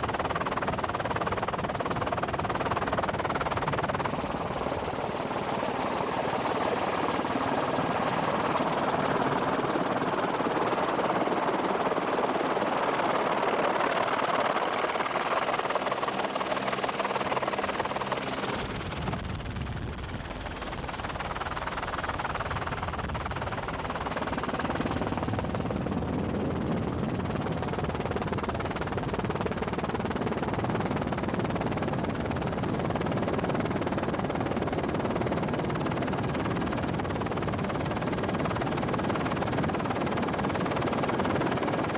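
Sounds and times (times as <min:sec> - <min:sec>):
helicopter engine and rotor din: 0:00.0 - 0:41.9.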